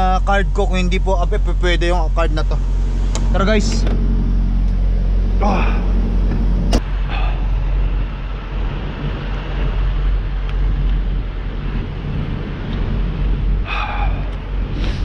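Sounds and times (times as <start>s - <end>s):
outdoor noise: 0.0s - 15.0s
vehicle engine rumble: 0.0s - 15.0s.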